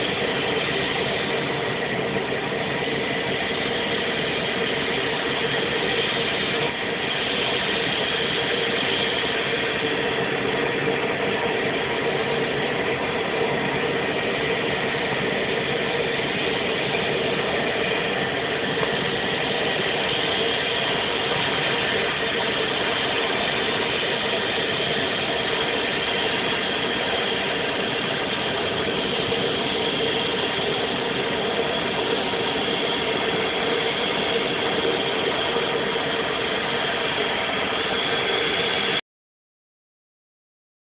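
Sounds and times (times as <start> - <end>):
turboprop engine idling: 0.0 - 39.0.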